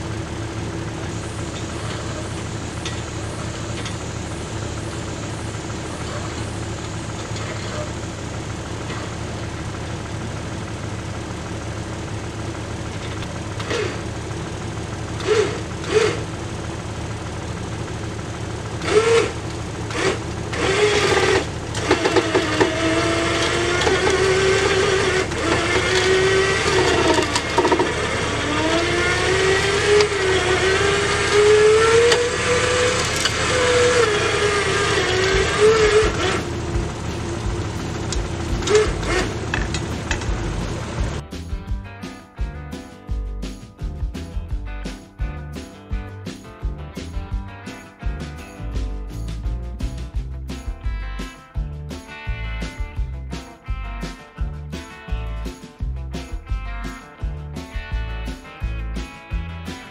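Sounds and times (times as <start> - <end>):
gasoline engine running: 0.0 - 59.9.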